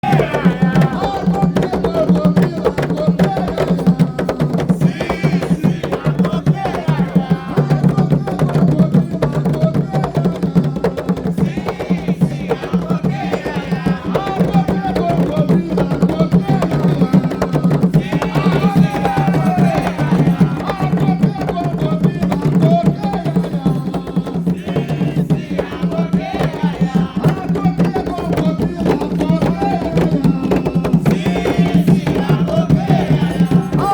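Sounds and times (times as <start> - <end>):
hand drums playing rhythm: 0.0 - 33.9.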